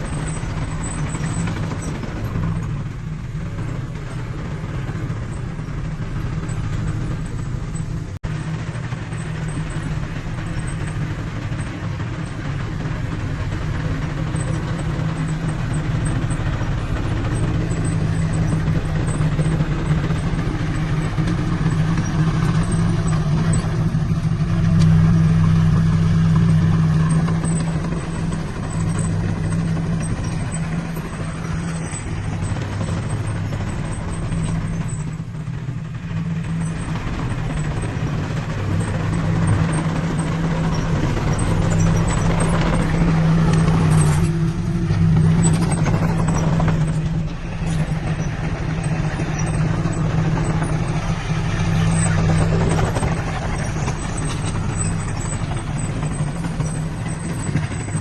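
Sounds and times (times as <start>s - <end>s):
heavy diesel engine humming: 0.0s - 58.0s.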